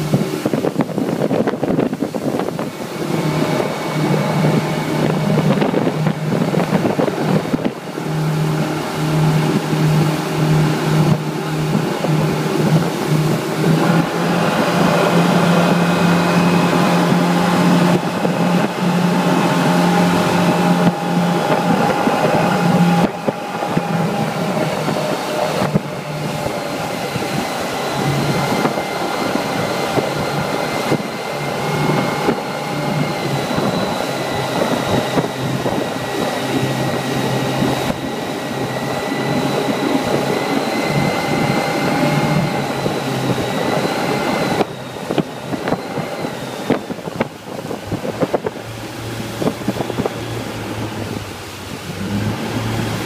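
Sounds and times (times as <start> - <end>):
outboard motors droning: 0.0 - 53.0
water noise from wake: 0.0 - 53.0
wind: 0.0 - 53.0.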